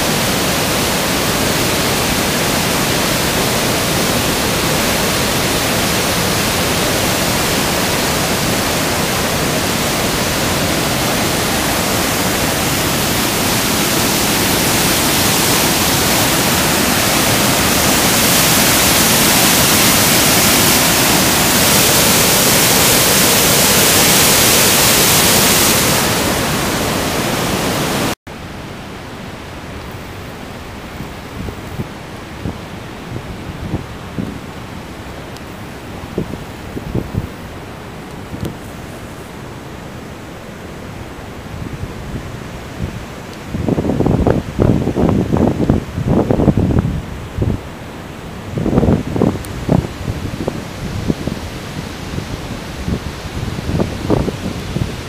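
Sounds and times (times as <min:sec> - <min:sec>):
distant river rushing: 0:00.0 - 0:55.0
water rushing over a dam: 0:00.0 - 0:55.0.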